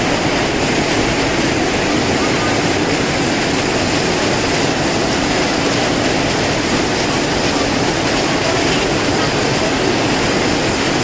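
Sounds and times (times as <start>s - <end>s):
strong wind with heavy rain: 0.0s - 11.0s
wind buffeting microphone: 0.0s - 11.0s.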